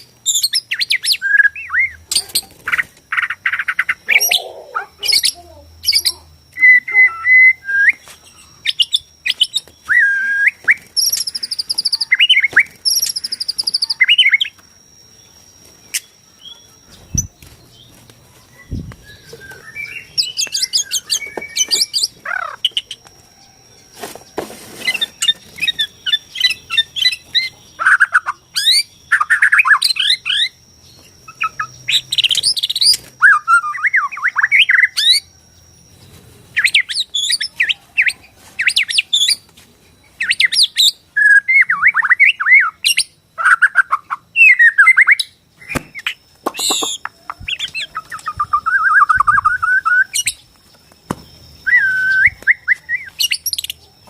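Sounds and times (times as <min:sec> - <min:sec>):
songbird singing trills and whistles: 0:00.0 - 0:54.0.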